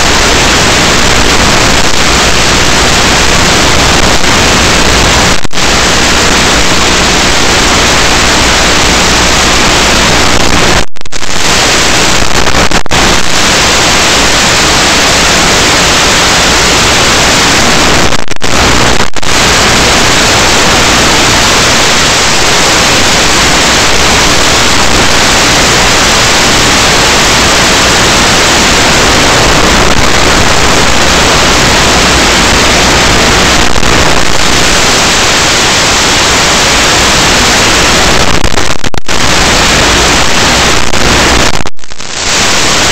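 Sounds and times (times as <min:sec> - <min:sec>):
static hiss: 0:00.0 - 0:42.9.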